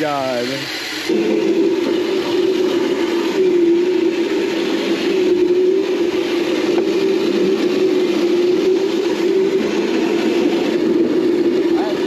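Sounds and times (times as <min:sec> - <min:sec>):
electric motor whining: 0:00.0 - 0:12.0
rushing ride noise: 0:00.0 - 0:12.0.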